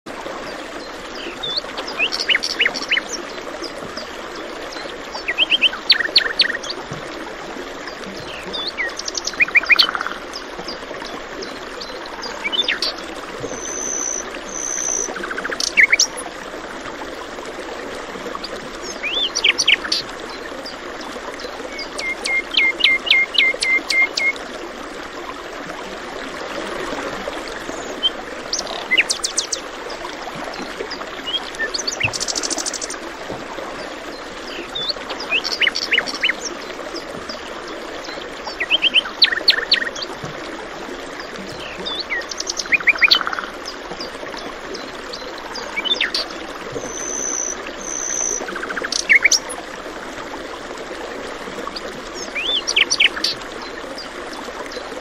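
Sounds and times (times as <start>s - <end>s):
flowing water rushing: 0.1s - 55.0s.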